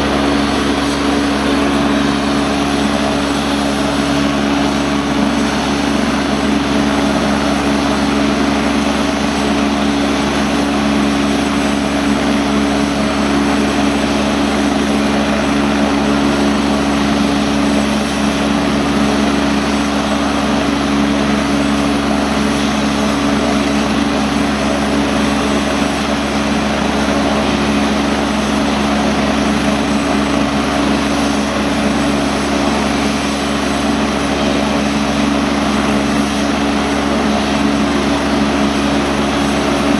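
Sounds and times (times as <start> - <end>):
helicopter engine and rotor hum: 0.0 - 39.9.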